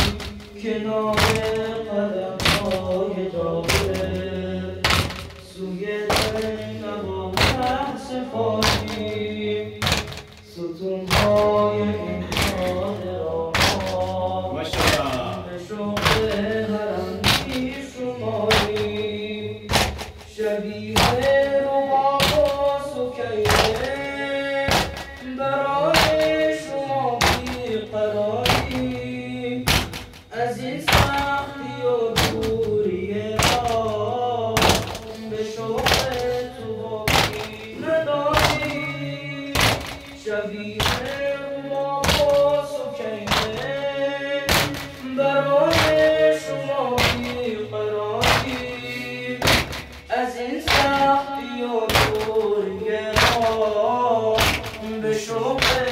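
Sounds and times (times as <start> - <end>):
man singing with long notes: 0.0 - 55.9
men beating their chests: 0.0 - 55.9.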